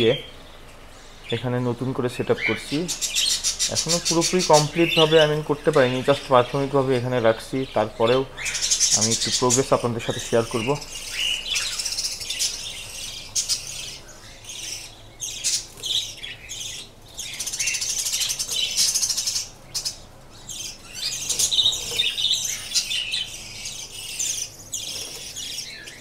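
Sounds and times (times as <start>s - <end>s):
budgerigars chattering and chirping: 0.0s - 26.0s.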